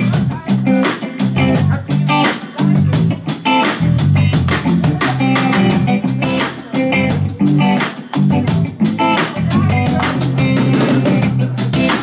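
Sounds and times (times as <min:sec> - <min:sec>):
bass: 0:00.0 - 0:12.0
drums: 0:00.0 - 0:12.0
electric guitar playing: 0:00.0 - 0:12.0.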